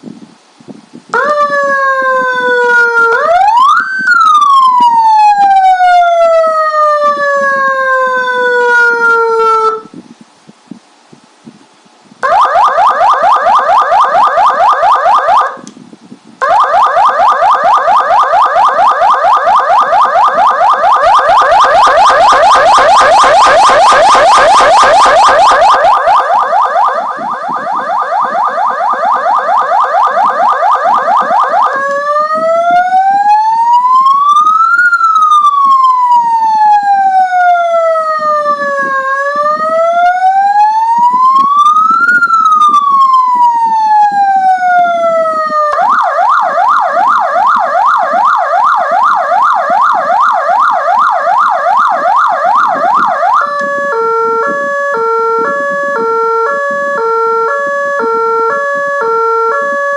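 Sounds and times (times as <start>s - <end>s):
electronic siren warbling and wailing: 1.2s - 9.9s, 12.2s - 15.6s, 16.4s - 59.9s.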